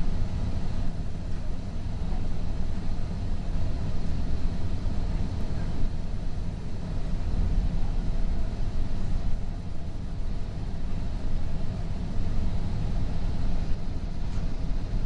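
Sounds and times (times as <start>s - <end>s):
train car rumbling on tracks: 0.0s - 15.0s.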